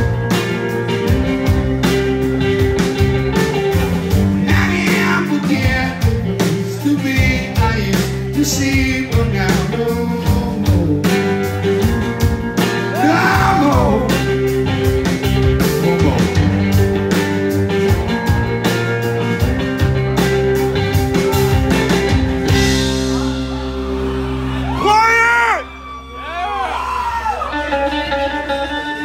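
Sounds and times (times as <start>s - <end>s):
drum kit beat: 0.0s - 23.9s
electric guitars: 0.0s - 29.0s.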